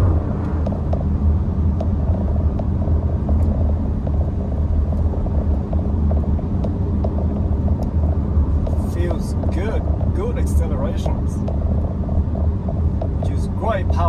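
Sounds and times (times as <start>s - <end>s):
car interior road and engine rumble: 0.0s - 14.0s.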